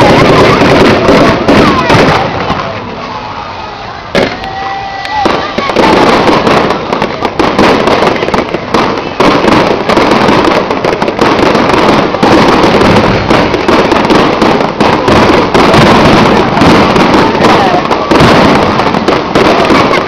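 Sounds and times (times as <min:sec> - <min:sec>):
fireworks crackling and bangs: 0:00.0 - 0:20.0.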